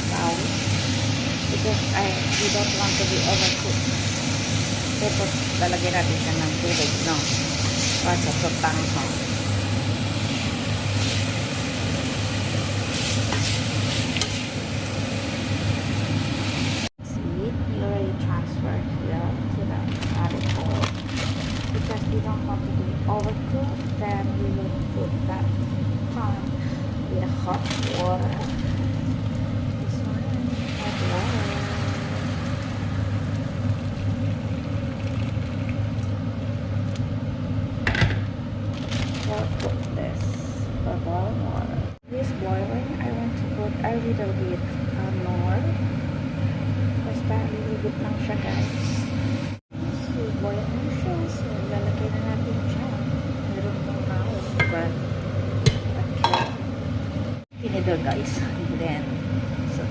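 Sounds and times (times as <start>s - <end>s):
vegetables sizzling in a frying pan: 0.0s - 16.9s, 19.8s - 36.9s, 42.1s - 59.9s
steady low hum: 0.0s - 59.9s.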